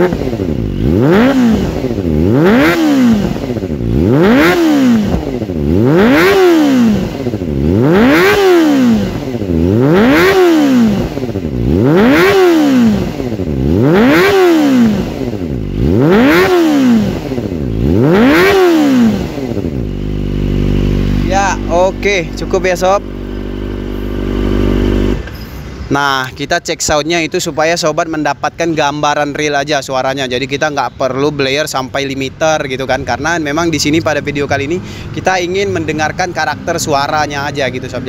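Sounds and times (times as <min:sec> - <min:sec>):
motorcycle engine revving: 0:00.0 - 0:25.9, 0:32.6 - 0:38.0.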